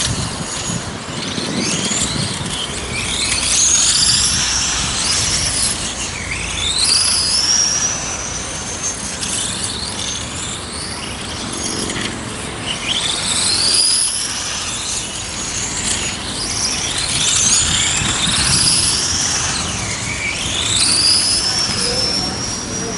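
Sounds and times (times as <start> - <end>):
electric motors whining: 0.0 - 22.9
hiss of tyres and drivetrains: 0.0 - 22.9.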